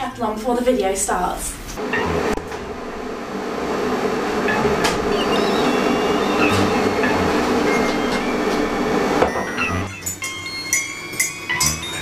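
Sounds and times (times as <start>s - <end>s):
kettle boiling rushing hum: 1.8s - 12.0s.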